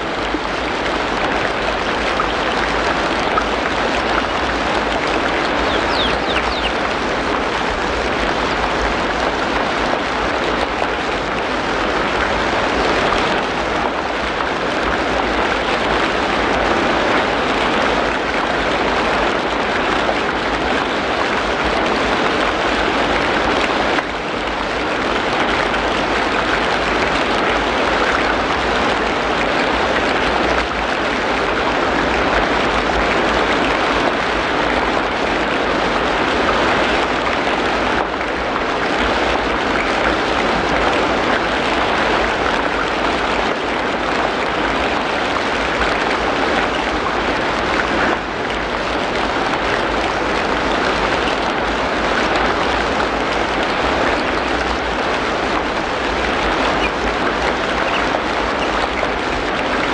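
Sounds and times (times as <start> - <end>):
rain falling on foliage: 0.0 - 59.9.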